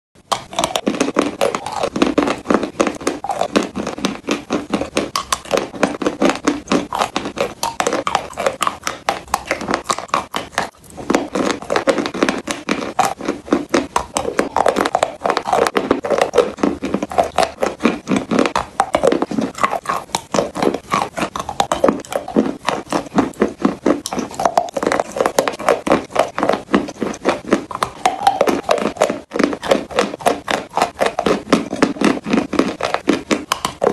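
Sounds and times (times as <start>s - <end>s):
crunching and chewing chalk: 0.2s - 33.9s.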